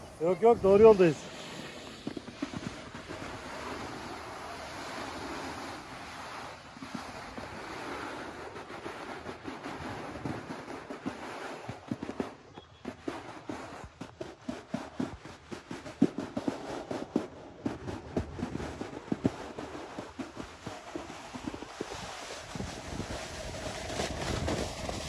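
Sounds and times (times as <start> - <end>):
snow crunching: 0.0 - 25.0.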